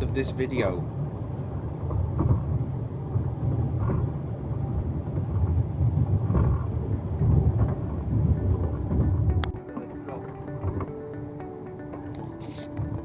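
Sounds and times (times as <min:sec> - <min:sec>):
railway carriage rumbling: 0:00.0 - 0:11.0.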